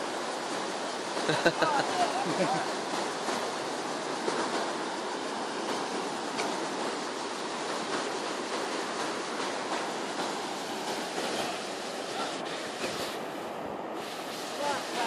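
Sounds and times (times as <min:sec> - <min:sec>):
river rushing over rock: 0:00.0 - 0:15.0.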